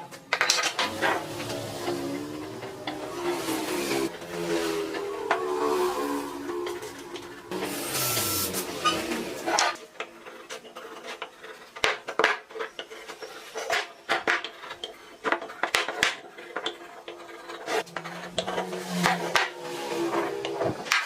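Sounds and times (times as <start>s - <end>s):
wood and tools knocking: 0.0s - 5.6s, 6.6s - 21.0s
scraping: 0.1s - 21.0s.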